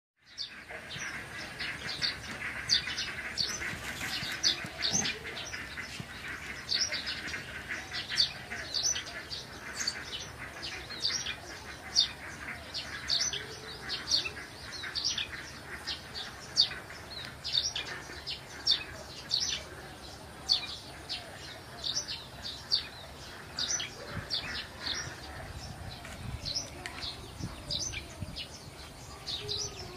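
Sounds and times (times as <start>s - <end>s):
background bird chorus: 0.2s - 29.9s
small birds chirping: 0.2s - 29.9s.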